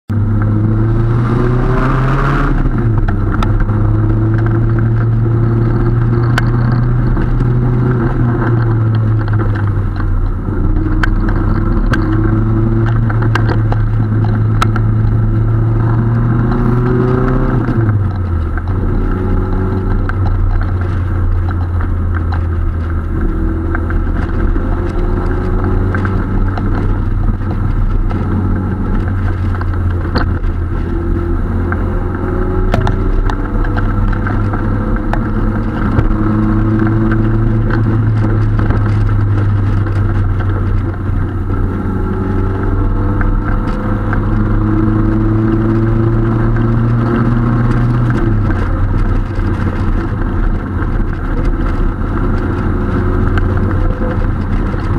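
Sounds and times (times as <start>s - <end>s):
car engine and exhaust running: 0.1s - 54.9s.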